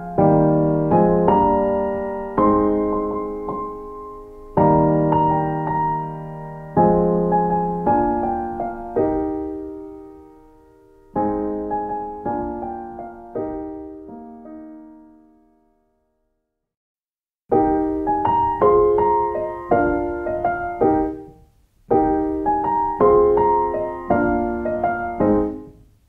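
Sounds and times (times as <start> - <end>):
slow solo piano chords: 0.0 - 15.8, 17.5 - 26.0.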